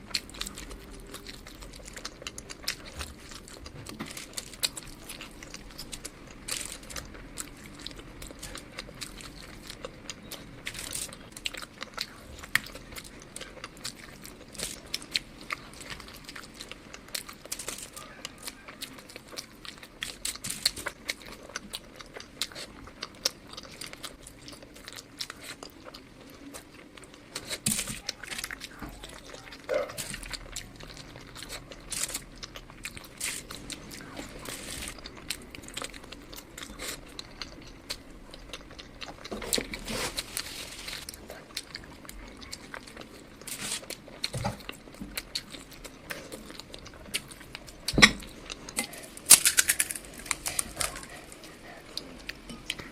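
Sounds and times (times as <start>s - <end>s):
chewing and biting food: 0.0s - 52.9s.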